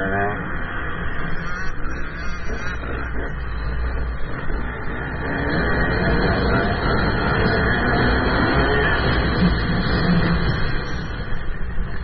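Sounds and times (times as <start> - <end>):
motocross bike engine revving: 0.0 - 11.4.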